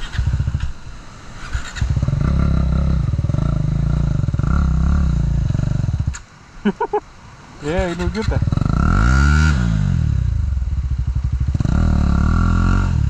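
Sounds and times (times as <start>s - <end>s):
motorcycle engine revving: 0.0s - 0.8s, 1.4s - 6.2s, 7.7s - 13.0s.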